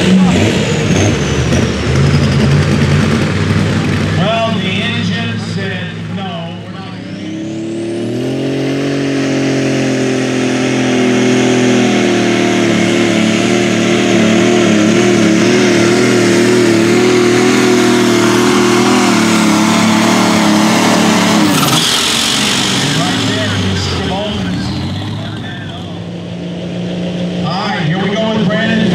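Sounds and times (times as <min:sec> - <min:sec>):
diesel tractor engine under load: 0:00.0 - 0:28.9.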